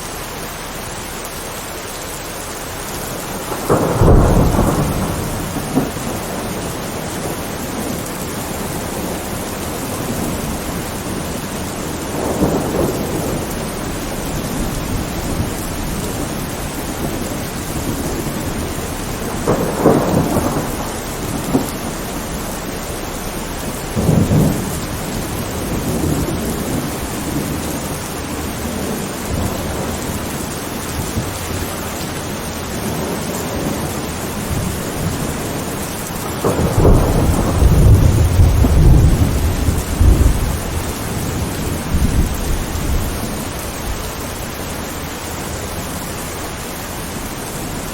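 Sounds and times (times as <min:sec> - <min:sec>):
steady rain: 0:00.0 - 0:47.9
rolling thunder: 0:03.0 - 0:47.9.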